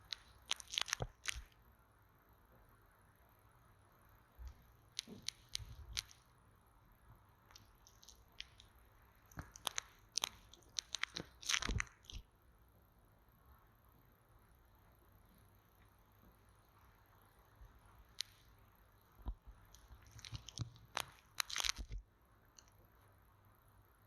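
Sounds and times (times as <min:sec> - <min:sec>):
faint microphone hiss: 0:00.0 - 0:24.0.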